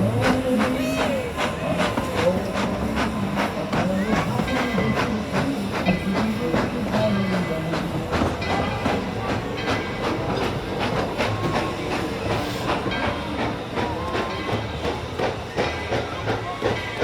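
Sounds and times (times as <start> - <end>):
train cars clattering over track: 0.0 - 17.0.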